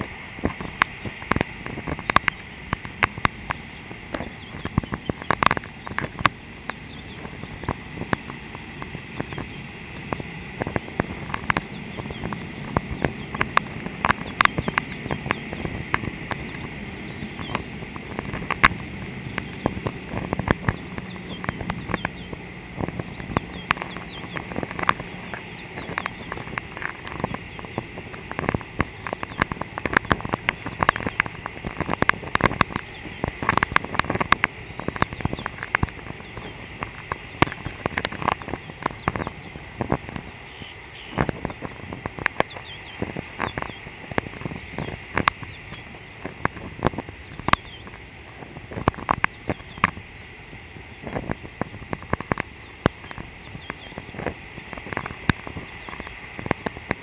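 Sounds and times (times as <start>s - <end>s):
high-pitched insect chorus: 0.0s - 57.0s
sharp clicks and taps: 0.4s - 9.5s, 10.1s - 40.3s, 41.1s - 48.0s.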